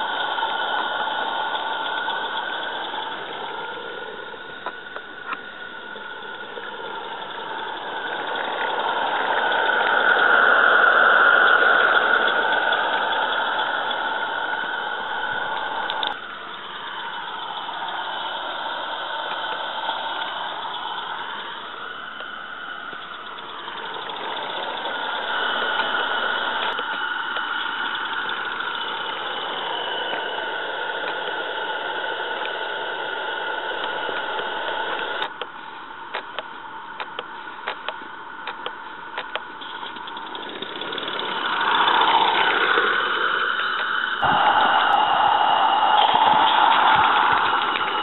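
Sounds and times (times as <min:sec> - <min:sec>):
steam locomotive running: 0:00.0 - 0:48.0.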